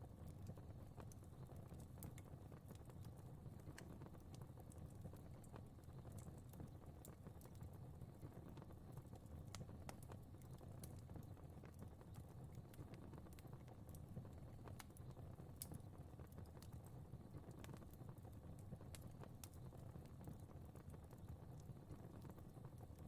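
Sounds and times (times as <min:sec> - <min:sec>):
fire crackling faintly: 0:00.0 - 0:23.0.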